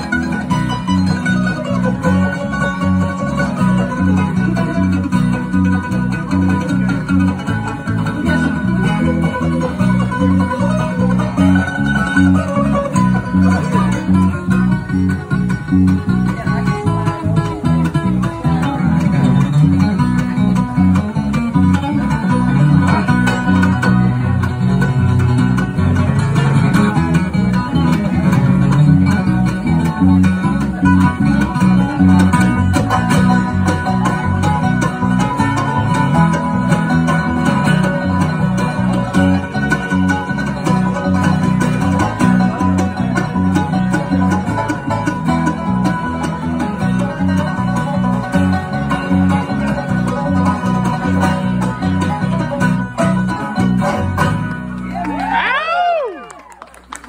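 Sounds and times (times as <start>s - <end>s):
acoustic guitar: 0.0s - 56.3s
banjo: 0.0s - 57.0s
bass: 0.0s - 57.0s
mandolin: 0.0s - 57.0s.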